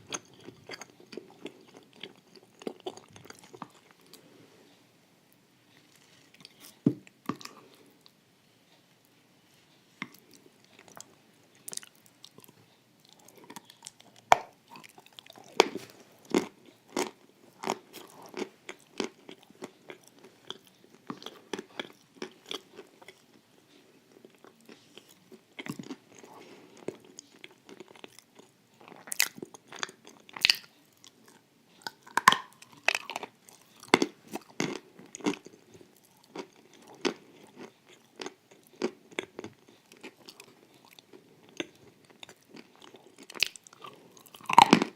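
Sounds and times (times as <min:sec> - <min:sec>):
person chewing crunchy food: 0:00.0 - 0:04.4, 0:05.8 - 0:08.1, 0:10.0 - 0:44.9.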